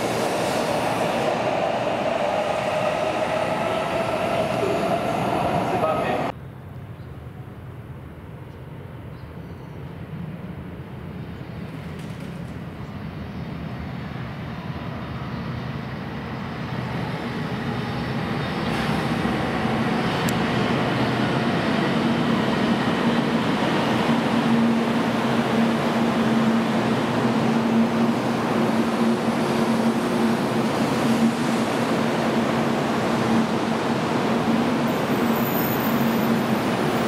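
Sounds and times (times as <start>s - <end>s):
train pulling into station: 0.0s - 6.4s, 7.2s - 37.0s.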